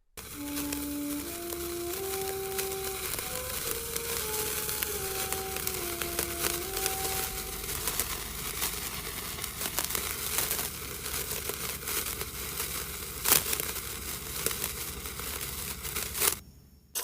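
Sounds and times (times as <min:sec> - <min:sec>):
fireworks crackling: 0:00.0 - 0:16.4.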